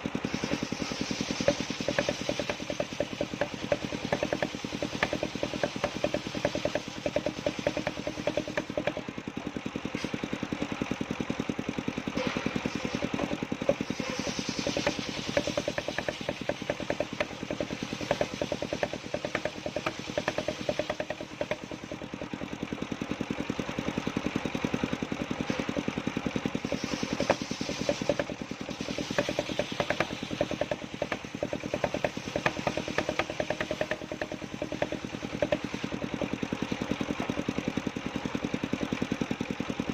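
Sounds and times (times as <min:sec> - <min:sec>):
saw blade cutting log: 0:00.0 - 0:39.9
saw mill engine running: 0:00.0 - 0:39.9.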